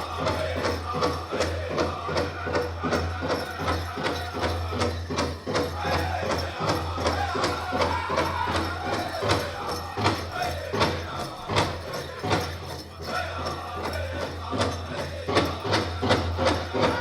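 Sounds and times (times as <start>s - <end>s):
large drum steady beat: 0.0s - 17.0s
singers chanting: 0.0s - 17.0s.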